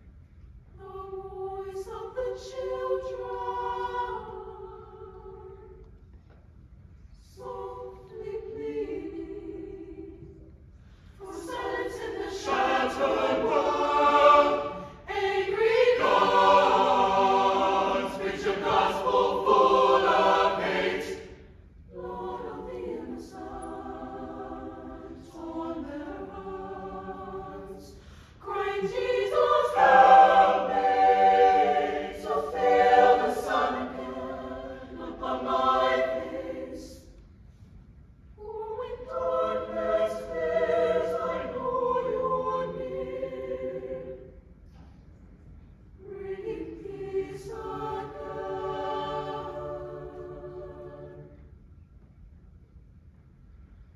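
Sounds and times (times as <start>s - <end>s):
mixed choir singing: 0.8s - 5.8s, 7.2s - 10.5s, 11.1s - 37.2s, 38.4s - 44.5s, 46.0s - 51.6s.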